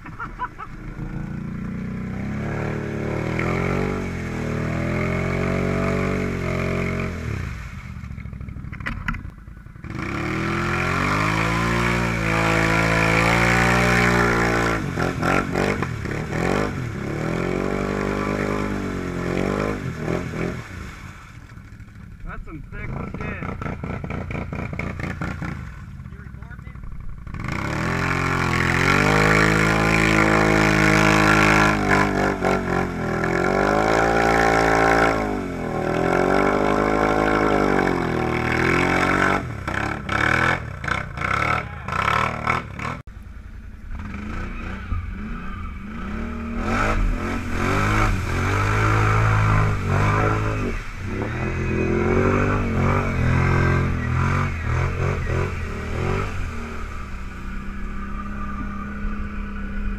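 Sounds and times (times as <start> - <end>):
atv engines revving: 0.0 - 59.9.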